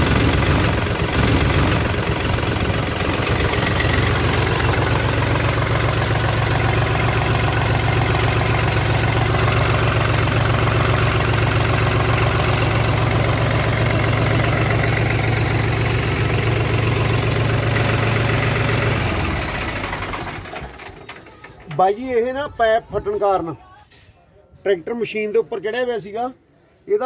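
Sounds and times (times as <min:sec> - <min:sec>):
diesel tractor engine idling: 0:00.0 - 0:22.3.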